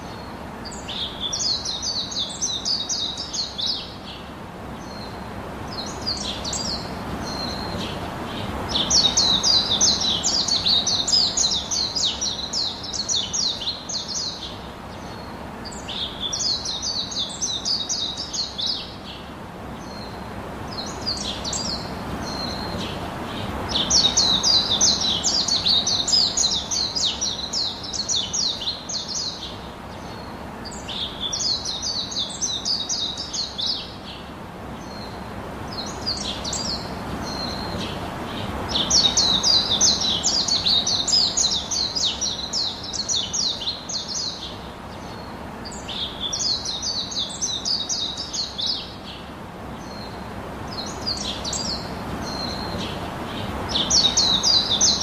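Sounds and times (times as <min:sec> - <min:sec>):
songbirds chirping: 0:00.0 - 0:55.0
steady low hiss: 0:00.0 - 0:55.0.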